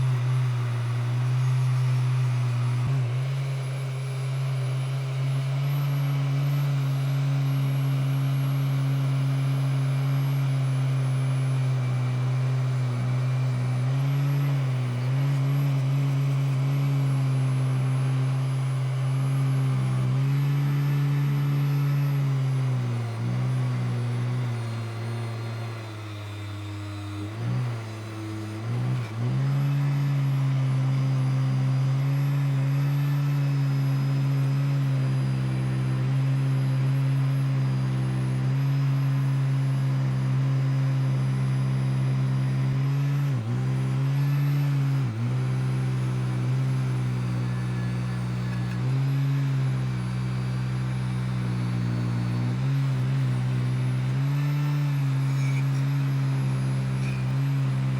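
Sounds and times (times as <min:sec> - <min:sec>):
electric motor humming: 0:00.0 - 0:57.9.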